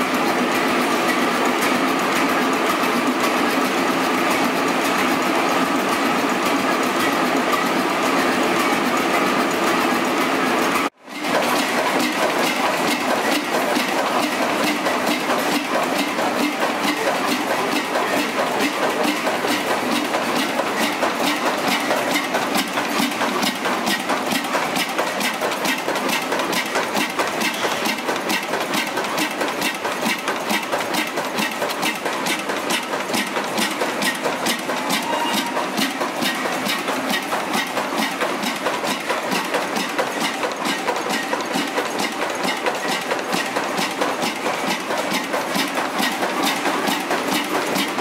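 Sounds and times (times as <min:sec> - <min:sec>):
oil engine running: 0:00.0 - 0:48.0.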